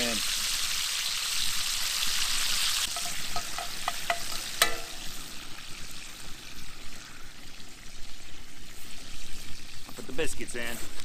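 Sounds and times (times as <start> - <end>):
bacon sizzling: 0.0 - 11.0.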